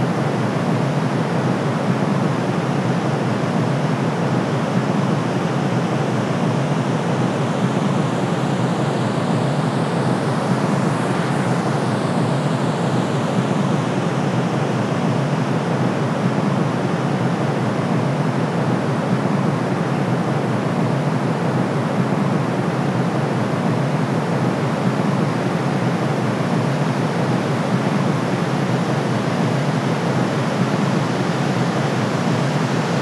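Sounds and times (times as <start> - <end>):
deep rushing white noise: 0.0 - 33.0.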